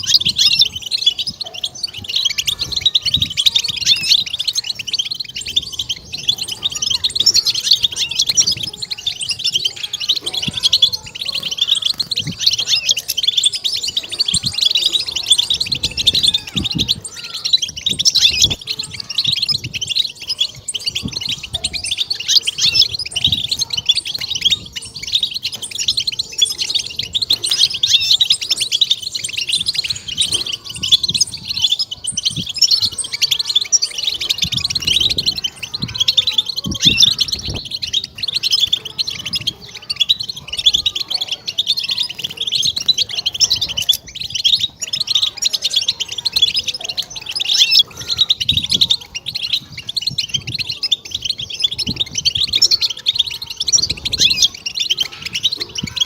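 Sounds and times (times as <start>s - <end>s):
goldfinch twittering song: 0.0s - 56.0s.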